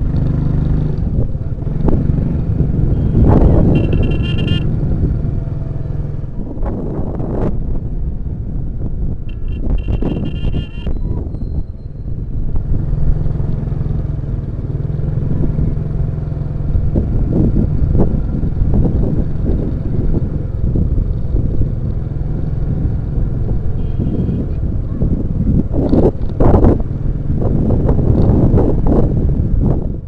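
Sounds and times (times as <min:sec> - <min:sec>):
motorcycle engine running: 0:00.0 - 0:30.0
wind rumbling on microphone: 0:00.0 - 0:30.0.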